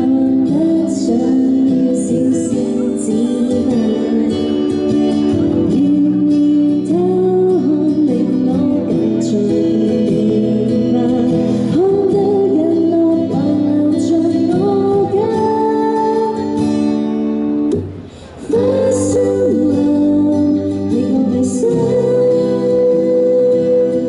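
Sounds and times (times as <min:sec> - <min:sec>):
woman singing into microphone: 0:00.0 - 0:24.0.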